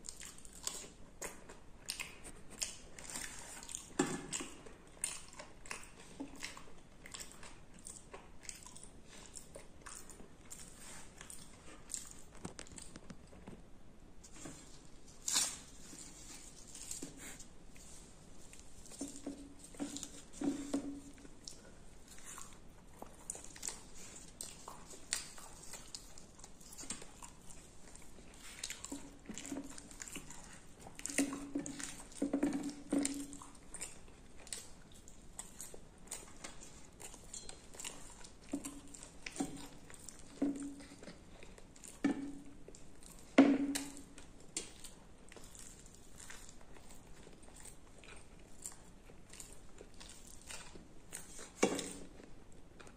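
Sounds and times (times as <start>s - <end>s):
close chewing with mouth clicks: 0.0s - 52.9s.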